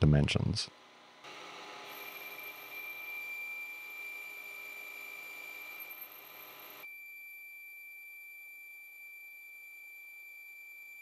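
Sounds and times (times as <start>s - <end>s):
lathe high-pitched whine: 0.7s - 11.0s.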